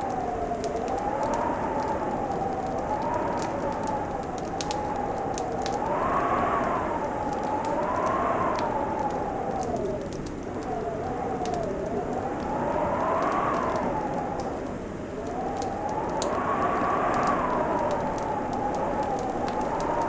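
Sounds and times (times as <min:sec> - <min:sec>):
howling wind: 0:00.0 - 0:20.0
wood fire crackling: 0:00.0 - 0:20.0.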